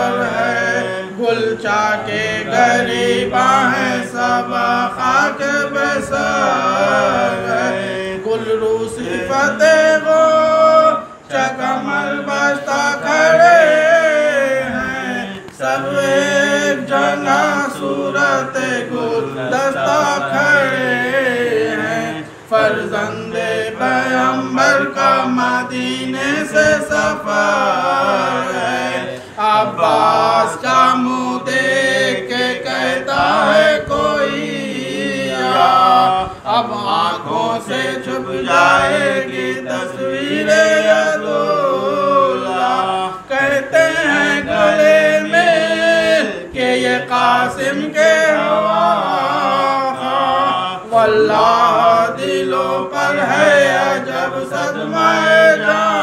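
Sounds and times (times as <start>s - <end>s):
men chanting together: 0.0s - 56.0s.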